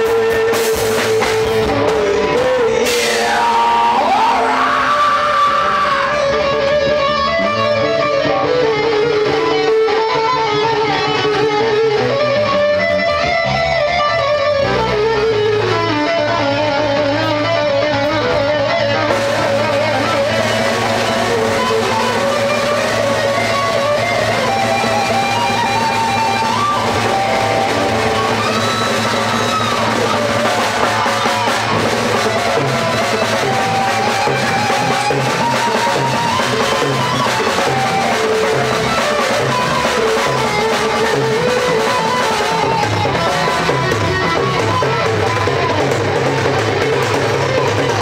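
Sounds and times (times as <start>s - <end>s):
bass guitar: 0.0s - 48.0s
drum kit: 0.0s - 48.0s
electric guitar lead melody: 0.0s - 48.0s.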